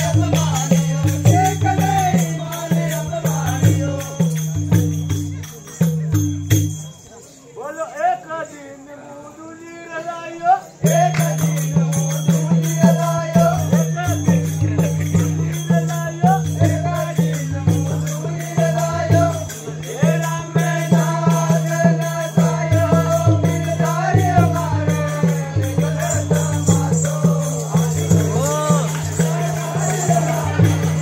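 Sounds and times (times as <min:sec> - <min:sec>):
drum beaten fast: 0:00.0 - 0:06.9, 0:10.9 - 0:31.0.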